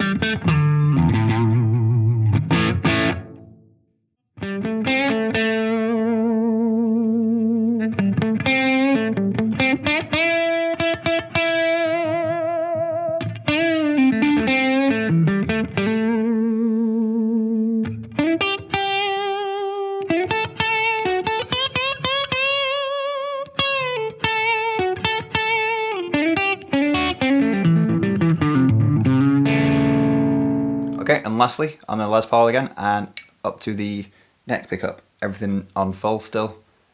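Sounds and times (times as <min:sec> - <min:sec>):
overdriven electric guitar lead: 0:00.0 - 0:03.7, 0:04.4 - 0:31.0.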